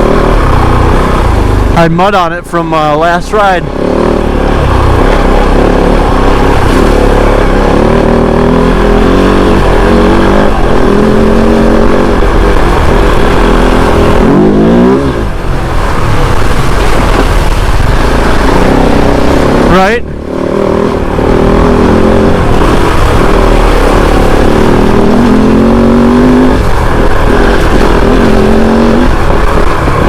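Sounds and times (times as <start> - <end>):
motorcycle engine revving: 0.0 - 1.9, 2.7 - 30.0.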